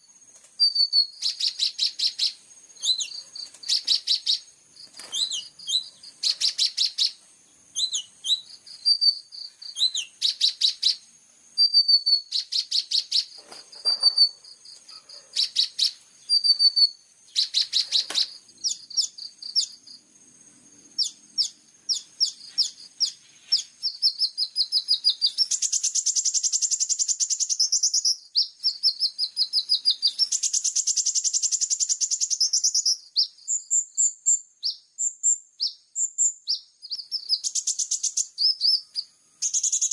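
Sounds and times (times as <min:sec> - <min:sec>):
buzzy bird trills: 0:00.0 - 0:19.9, 0:20.9 - 0:34.8
songbird singing: 0:00.0 - 0:39.9.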